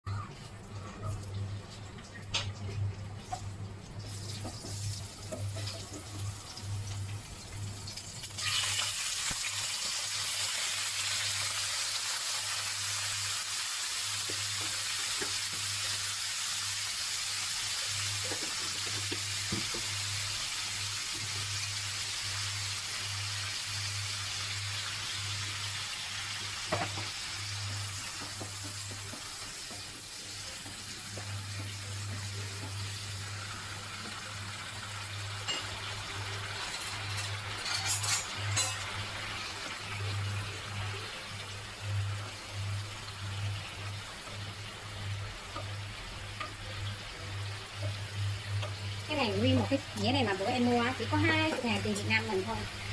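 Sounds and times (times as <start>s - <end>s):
food sizzling in hot oil: 4.0s - 52.9s.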